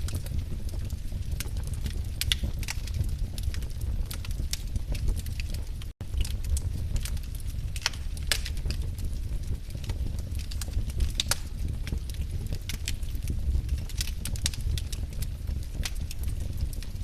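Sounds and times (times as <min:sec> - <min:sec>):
fire crackling and popping: 0:00.0 - 0:17.0
fire low rumble: 0:00.0 - 0:17.0.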